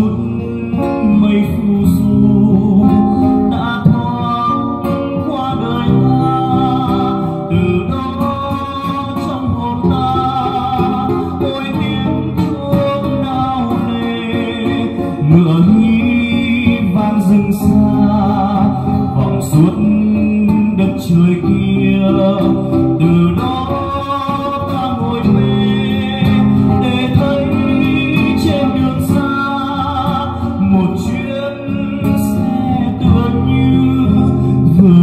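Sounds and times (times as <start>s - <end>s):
acoustic guitars playing: 0.0s - 35.0s
man singing into a microphone: 0.0s - 35.0s.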